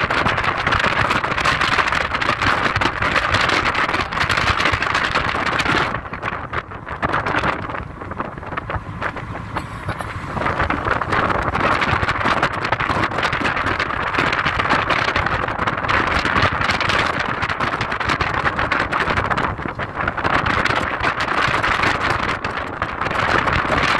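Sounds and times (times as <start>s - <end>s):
car engine: 0.0s - 23.7s
car tyre and road noise: 0.0s - 23.9s.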